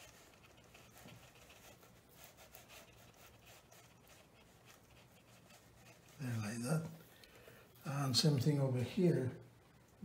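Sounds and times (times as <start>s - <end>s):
brush dabbing on paper: 0.0s - 10.0s.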